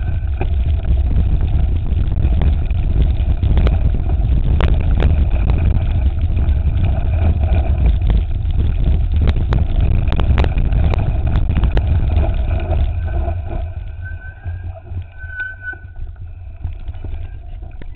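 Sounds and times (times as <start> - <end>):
bike rattling: 0.0 - 17.9
wind buffeting microphone: 0.0 - 17.9.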